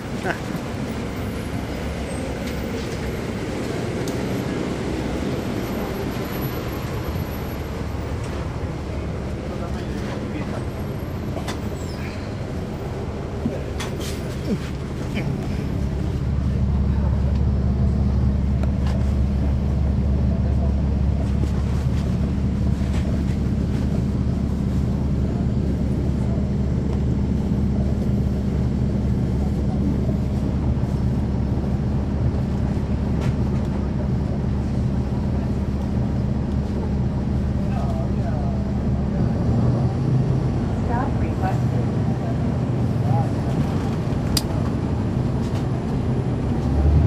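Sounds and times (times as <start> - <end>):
bus diesel engine rumbling: 0.0 - 47.0.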